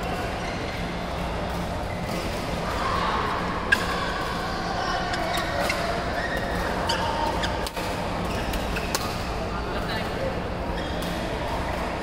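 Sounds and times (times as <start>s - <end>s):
busy sports hall din: 0.0s - 12.0s.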